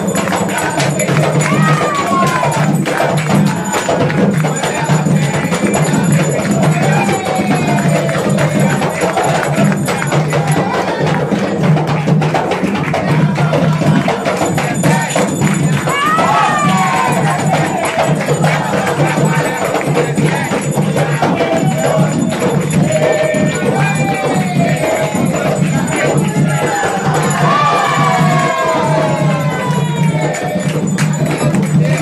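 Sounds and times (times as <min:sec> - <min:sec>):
group clapping: 0:00.0 - 0:32.0
hand drums beating: 0:00.0 - 0:32.0
voices singing a chant: 0:00.0 - 0:32.0.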